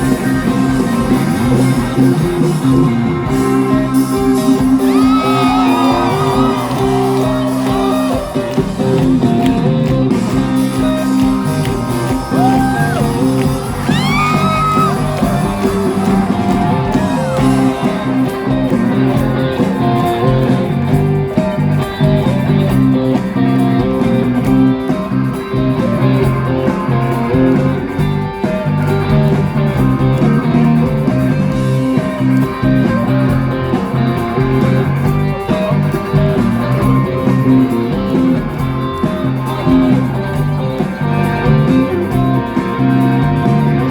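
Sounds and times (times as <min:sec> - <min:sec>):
electric guitars: 0:00.0 - 0:43.9
live rock band playing: 0:00.0 - 0:43.9.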